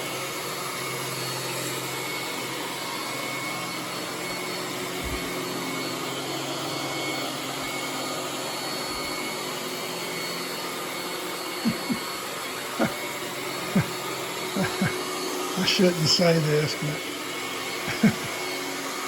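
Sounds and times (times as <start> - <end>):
robot vacuum running: 0.0 - 19.0.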